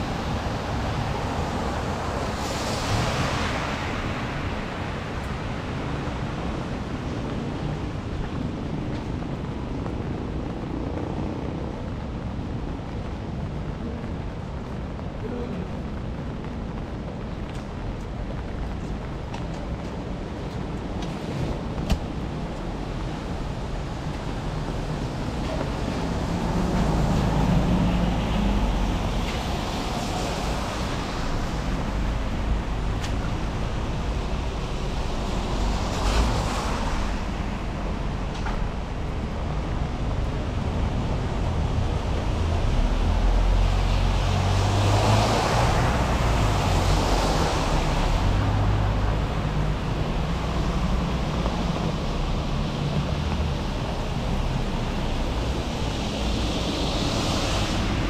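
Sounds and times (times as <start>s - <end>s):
car tyres hissing on wet road: 0.0s - 38.8s, 40.6s - 58.0s
steady rain: 0.0s - 58.0s.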